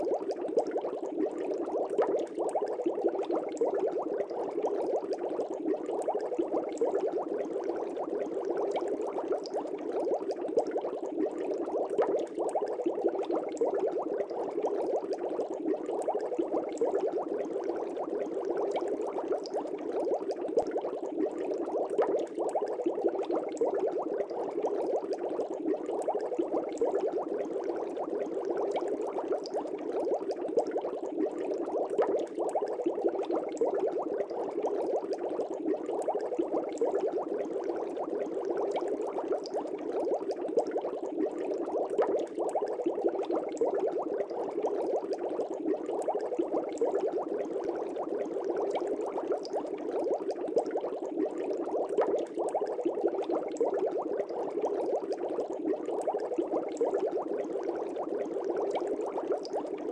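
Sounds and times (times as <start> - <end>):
aquarium air bubbling: 0.0 - 59.9.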